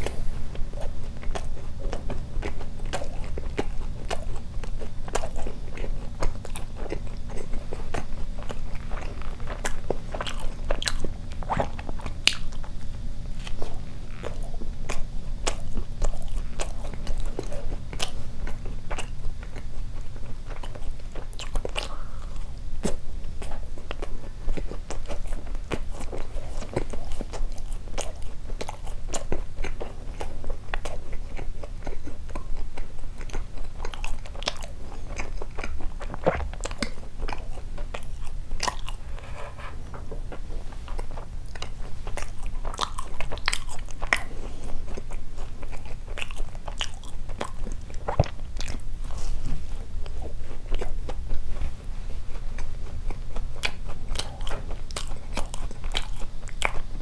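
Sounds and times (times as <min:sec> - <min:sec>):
chewing mouth clicks and smacks: 0:00.0 - 0:57.0
steady low hum: 0:00.0 - 0:57.0.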